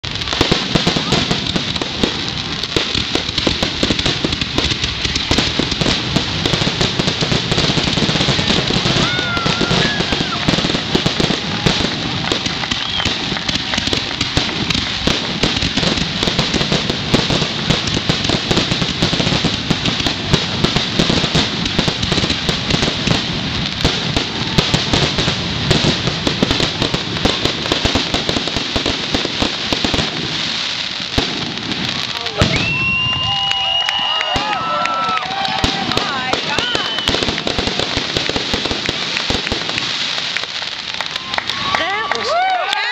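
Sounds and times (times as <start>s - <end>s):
fireworks bursts and crackling: 0.0s - 42.9s.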